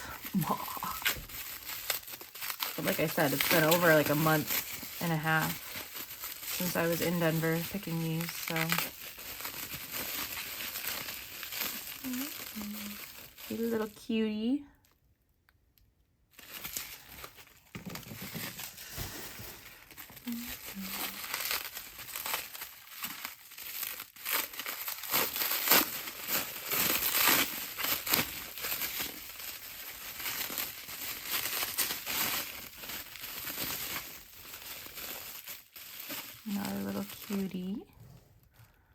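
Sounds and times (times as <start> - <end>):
packing wrap crinkling: 0.0 - 15.0, 16.3 - 38.9.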